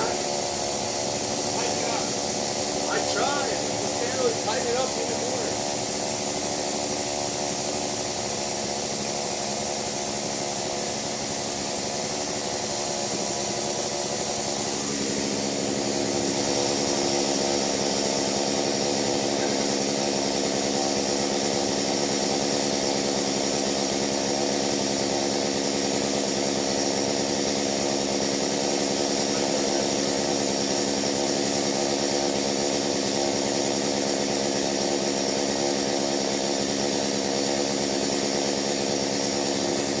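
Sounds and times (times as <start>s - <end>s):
chainsaw engine running: 0.0s - 40.0s.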